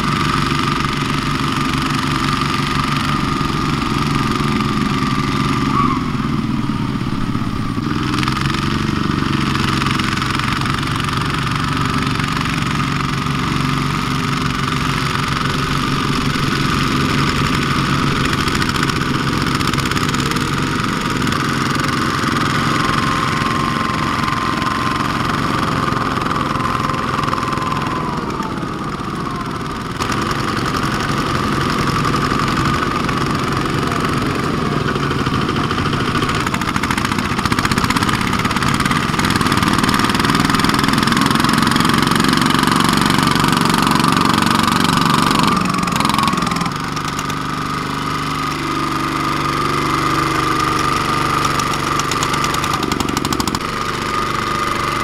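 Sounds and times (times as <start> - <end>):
walking tractor diesel engines: 0.0 - 55.0.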